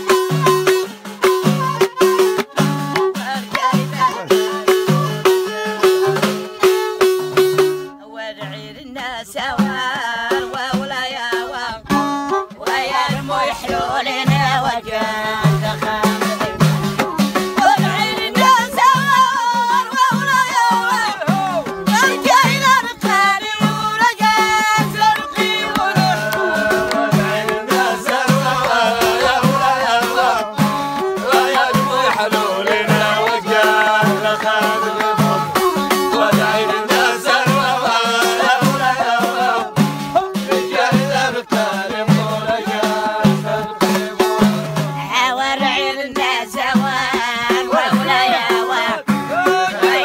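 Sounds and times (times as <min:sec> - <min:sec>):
woman singing: 0:00.0 - 0:05.7, 0:07.9 - 0:50.0
steady beat: 0:00.0 - 0:07.9, 0:11.9 - 0:45.2, 0:46.2 - 0:50.0
plucked string riff: 0:00.0 - 0:08.8, 0:09.5 - 0:50.0.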